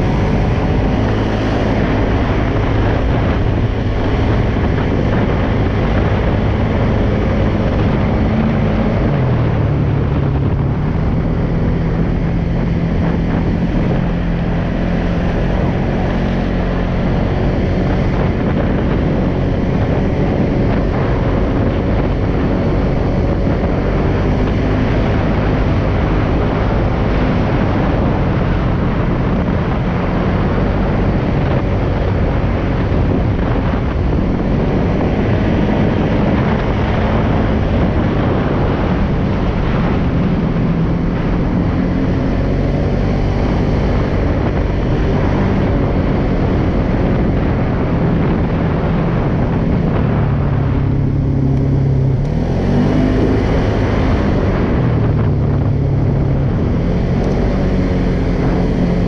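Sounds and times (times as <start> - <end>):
atv engine running: 0.0 - 59.0
wind noise on microphone: 0.0 - 59.0.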